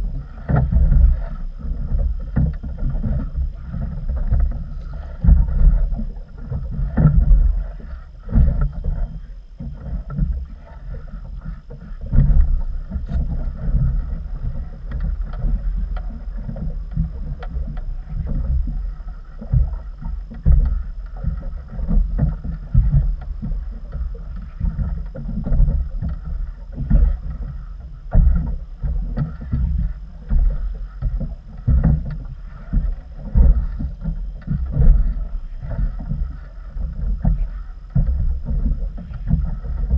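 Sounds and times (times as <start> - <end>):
water slapping against boat: 0.0 - 39.9.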